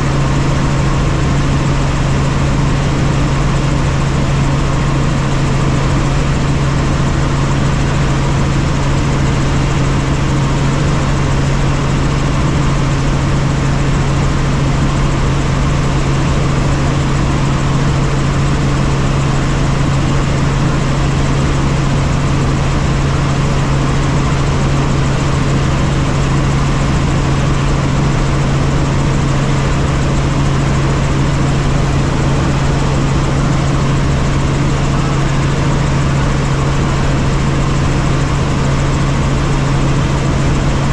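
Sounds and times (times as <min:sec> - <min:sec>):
helicopter engine and rotors droning: 0:00.0 - 0:40.9.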